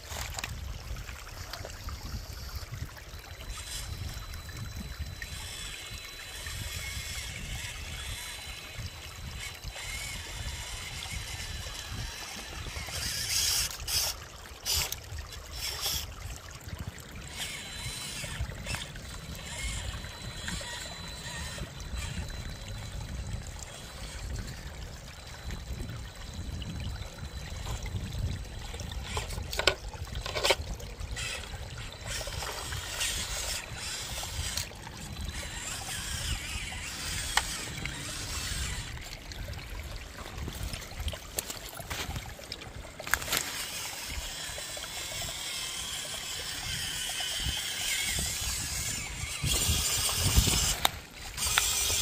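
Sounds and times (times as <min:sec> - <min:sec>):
creek water trickling and splashing: 0:00.0 - 0:52.0.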